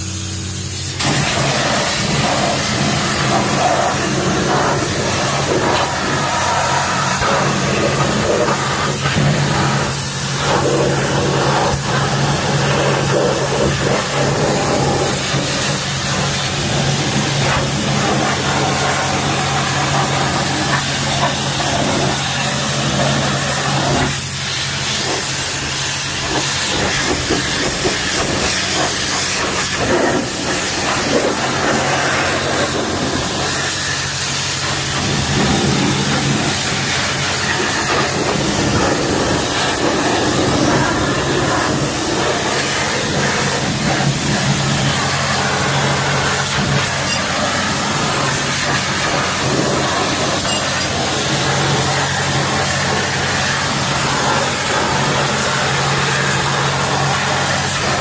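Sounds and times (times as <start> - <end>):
constant low hum: 0.0 - 58.0
water spray hissing off engine: 0.0 - 58.0.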